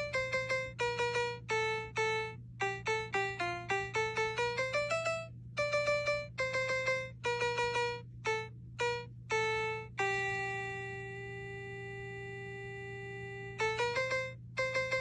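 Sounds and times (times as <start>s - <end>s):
ringing keyboard melody: 0.0s - 15.0s
steady low hum: 0.0s - 15.0s.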